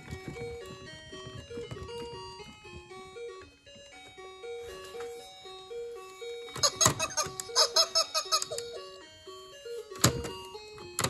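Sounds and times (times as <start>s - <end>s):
toy playing electronic tune: 0.0s - 11.0s.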